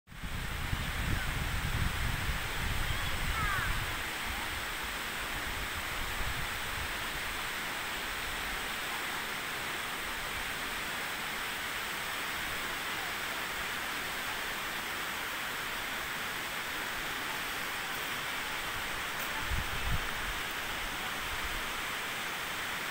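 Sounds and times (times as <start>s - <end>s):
waterfall rushing hiss: 0.1s - 22.9s.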